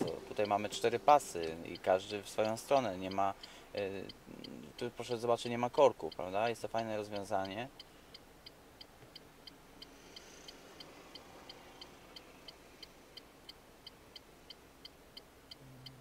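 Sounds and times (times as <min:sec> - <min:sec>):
turn signal ticking: 0:00.0 - 0:16.0.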